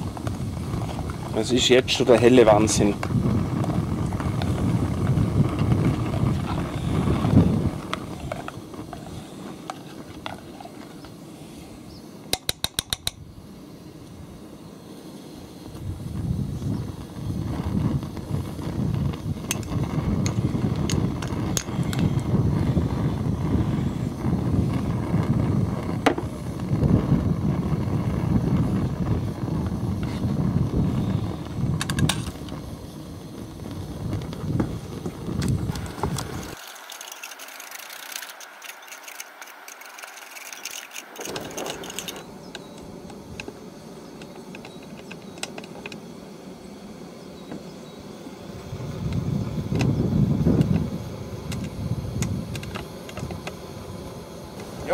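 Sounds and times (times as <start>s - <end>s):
wind buffeting microphone: 0.0s - 10.7s, 15.6s - 43.4s, 48.5s - 54.9s.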